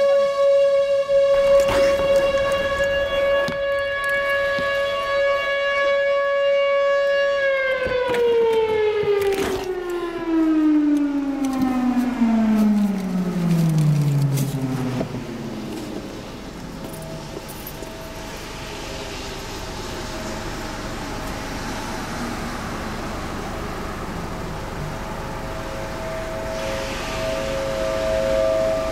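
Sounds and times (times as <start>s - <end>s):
tornado warning siren wailing: 0.0s - 28.9s.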